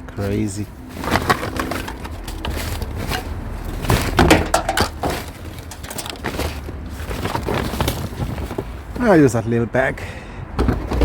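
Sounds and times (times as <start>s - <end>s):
rummaging through scrap: 0.0s - 9.3s.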